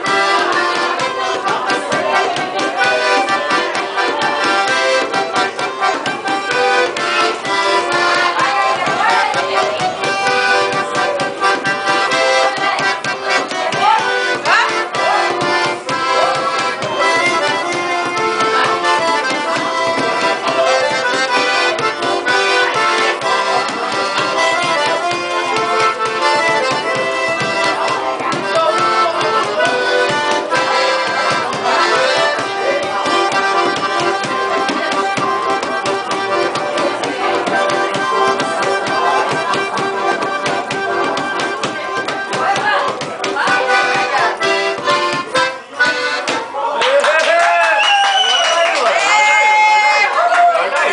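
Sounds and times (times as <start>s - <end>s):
rapid percussion tapping: 0.0s - 46.5s
accordion playing chords: 0.0s - 46.7s.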